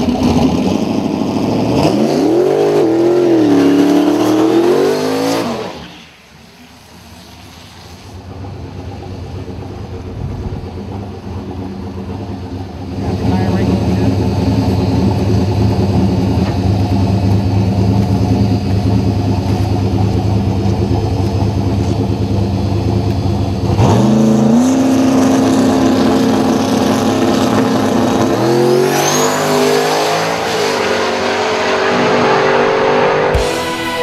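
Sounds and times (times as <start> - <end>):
drag car engine revving: 0.0 - 34.0.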